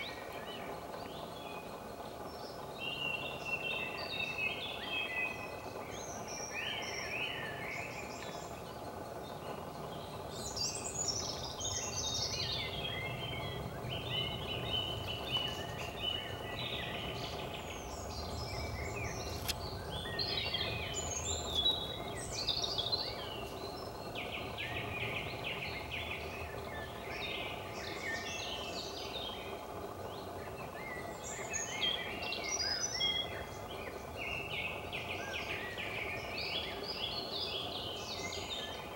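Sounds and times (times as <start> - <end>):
low background hum: 0.0 - 38.9
songbirds singing and calling: 0.0 - 38.9.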